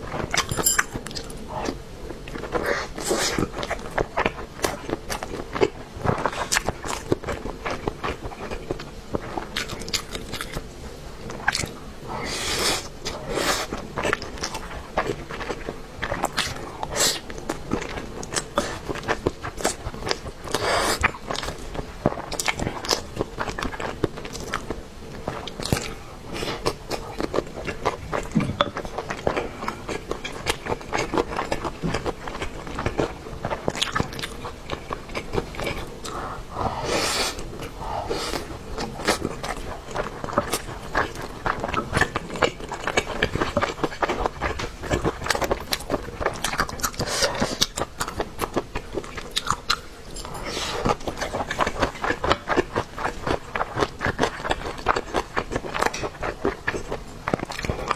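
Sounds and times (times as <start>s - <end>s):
person chewing food: 0.0s - 57.9s.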